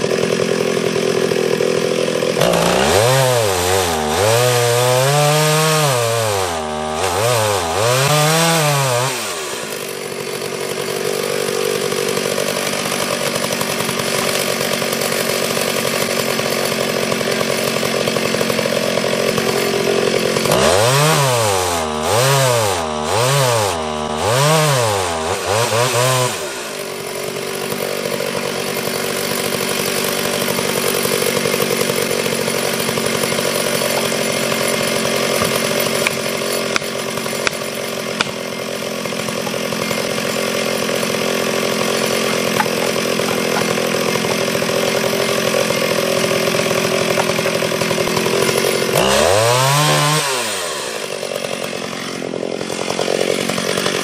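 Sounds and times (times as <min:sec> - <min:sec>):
chainsaw cutting wood: 0:00.0 - 0:54.0
chainsaw revving: 0:00.0 - 0:54.0.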